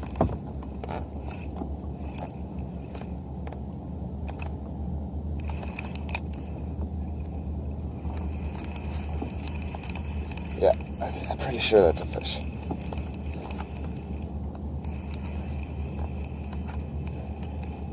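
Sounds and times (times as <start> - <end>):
light clicks and ticks: 0.0 - 4.7, 5.3 - 7.4, 8.0 - 17.9
low wind rumble: 0.0 - 17.9
water rumble: 0.0 - 17.9.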